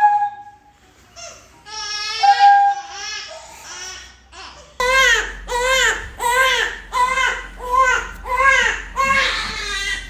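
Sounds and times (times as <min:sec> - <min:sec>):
baby crying: 0:01.2 - 0:10.0.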